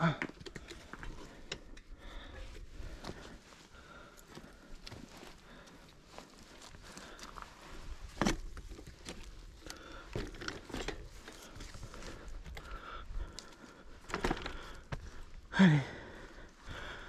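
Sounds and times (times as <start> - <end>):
bike crunching over rough trail: 0.7 - 17.0.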